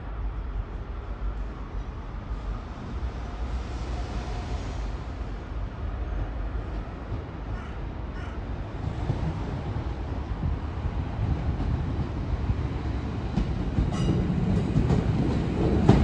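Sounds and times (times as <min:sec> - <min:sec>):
railway station rumble: 0:00.0 - 0:16.0.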